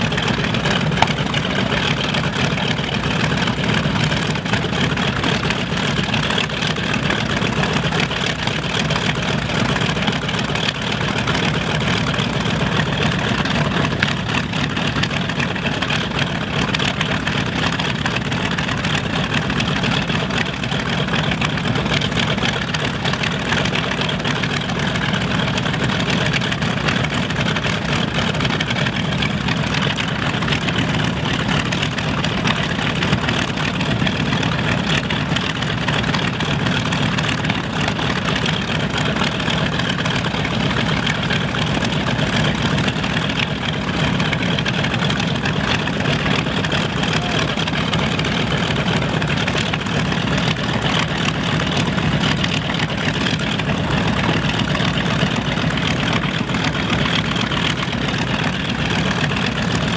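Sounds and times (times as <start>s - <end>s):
radial engines idling: 0.0s - 59.9s.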